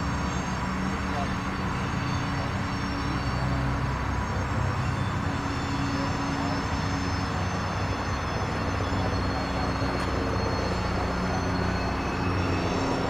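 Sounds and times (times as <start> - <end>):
faint high whine: 0.0 - 13.0
low engine drone: 0.0 - 13.0.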